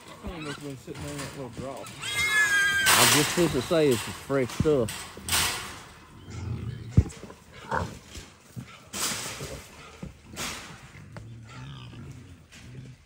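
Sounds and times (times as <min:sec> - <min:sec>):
hogs grunting: 0:00.0 - 0:04.6, 0:05.2 - 0:13.0.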